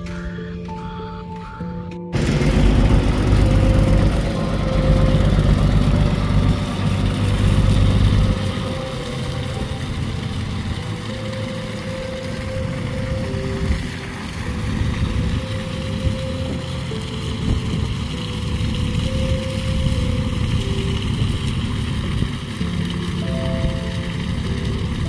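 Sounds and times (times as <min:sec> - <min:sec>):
truck diesel engine passing: 0:02.1 - 0:25.0.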